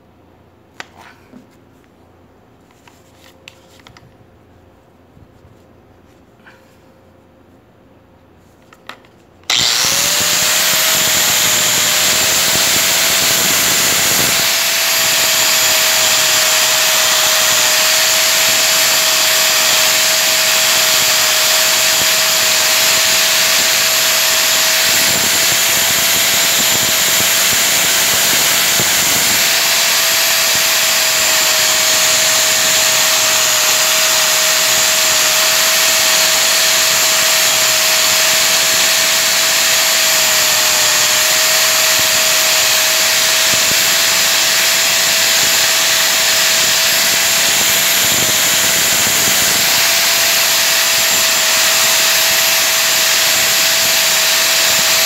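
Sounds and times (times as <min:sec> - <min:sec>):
electric motor machine whining: 0:09.5 - 0:55.0.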